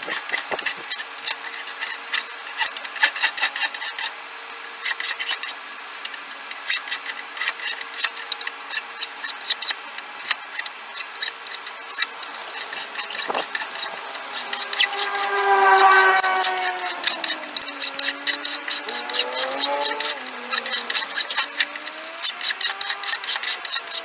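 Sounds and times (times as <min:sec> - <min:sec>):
hand file scraping wood: 0:00.0 - 0:04.2, 0:04.8 - 0:05.6, 0:06.6 - 0:24.0.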